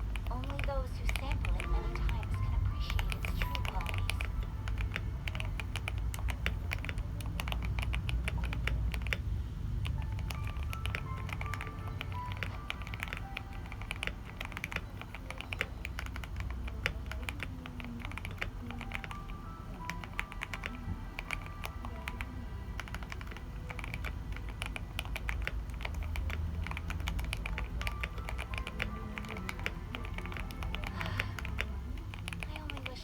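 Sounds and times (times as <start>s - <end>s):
background music: 0.0s - 33.0s
mechanical keyboard typing: 0.0s - 33.0s.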